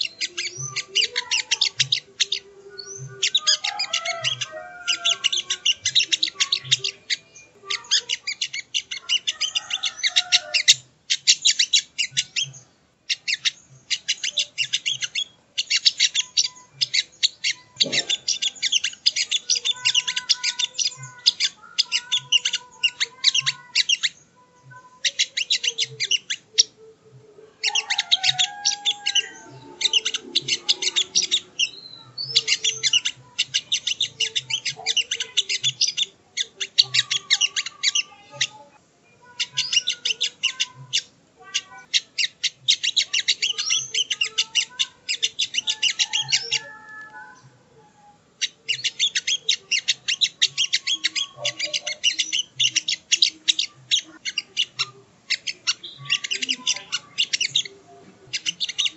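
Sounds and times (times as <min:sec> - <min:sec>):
bird chirping rapidly: 0:00.0 - 0:26.8, 0:27.6 - 0:38.6, 0:39.2 - 0:47.5, 0:48.4 - 0:58.9.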